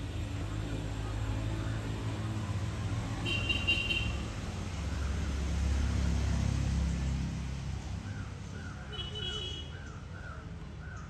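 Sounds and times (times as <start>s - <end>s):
vehicle passing: 0.0s - 9.0s
road traffic rumble: 0.0s - 11.0s.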